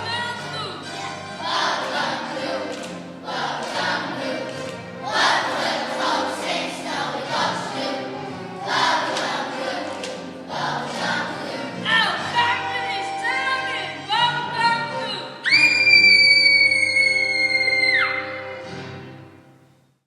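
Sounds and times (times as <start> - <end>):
children's choir singing: 0.0 - 18.6
musical accompaniment: 0.0 - 19.8.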